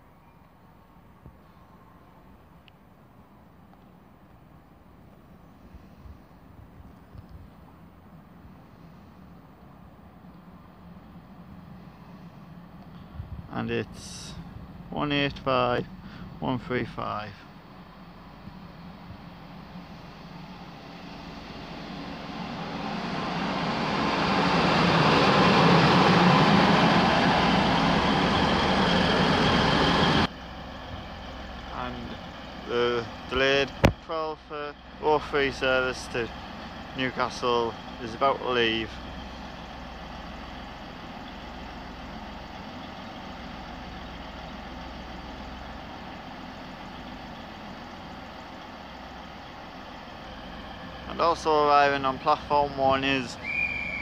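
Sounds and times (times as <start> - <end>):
train engine and wheels on rail: 0.0 - 54.0.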